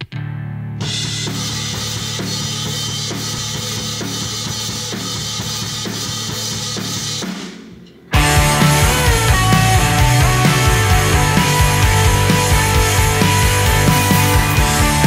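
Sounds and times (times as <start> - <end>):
rock band playing: 0.8 - 7.5, 8.1 - 15.0
drum-kit beat: 0.8 - 15.0.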